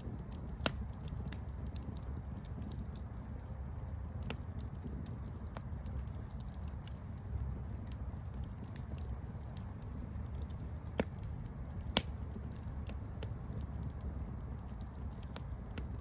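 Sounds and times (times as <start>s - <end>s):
campfire rumble: 0.0s - 16.0s
sharp fire pops: 0.0s - 16.0s
small fire crackles: 0.0s - 16.0s.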